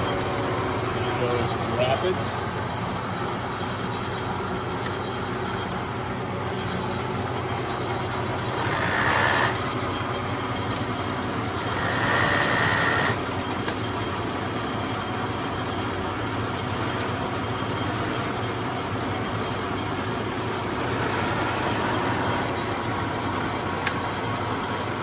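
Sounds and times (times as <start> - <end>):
milling machine running: 0.0 - 25.0
table traverse with gear whine: 0.0 - 25.0.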